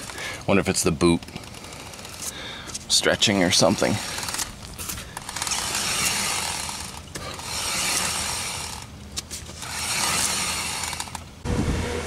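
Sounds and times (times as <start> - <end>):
wheel hub rubbing and grinding: 0.0 - 11.6.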